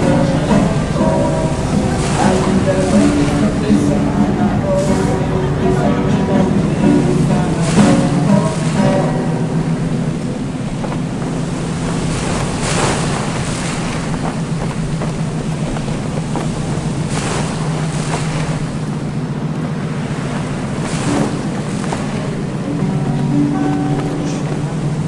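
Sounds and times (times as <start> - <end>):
rushing water: 0.0 - 25.0
rushing wind: 0.0 - 25.0
ship engine hum: 0.0 - 25.0.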